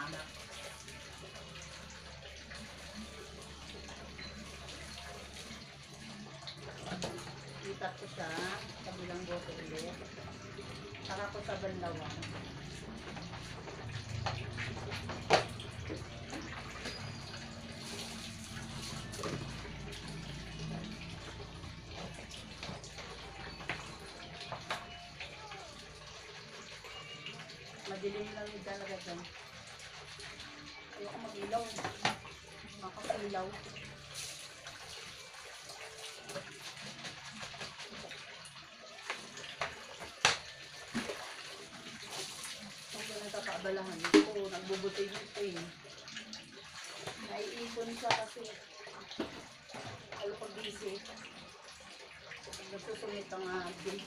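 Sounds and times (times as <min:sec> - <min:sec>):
water pouring into plastic bottles: 0:00.0 - 0:54.0
water splashing: 0:00.0 - 0:54.0.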